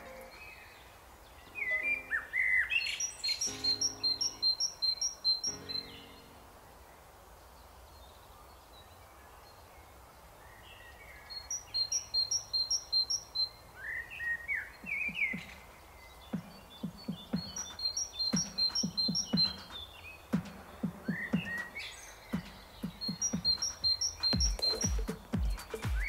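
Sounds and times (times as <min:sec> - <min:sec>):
faint background hiss: 0:00.0 - 0:26.0
small birds chirping: 0:00.0 - 0:26.0.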